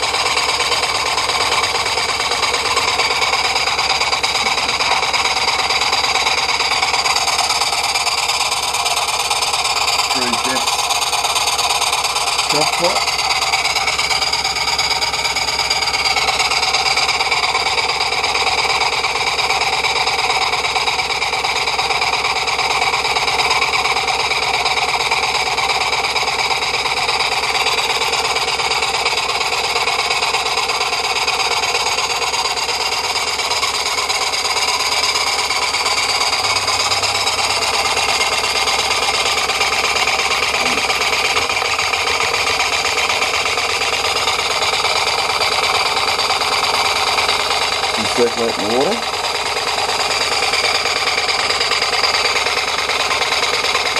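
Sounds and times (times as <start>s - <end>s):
model steam engine chuffing: 0.0s - 53.9s.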